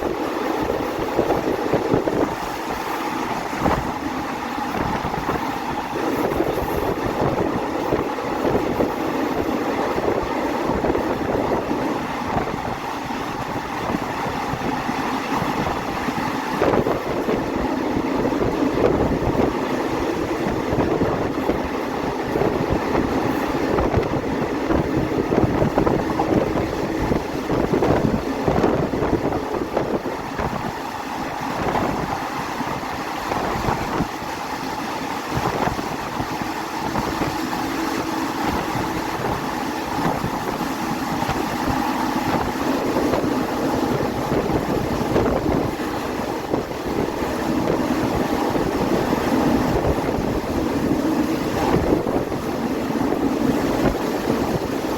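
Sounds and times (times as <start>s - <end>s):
train rumbling on rails: 0.0s - 54.9s.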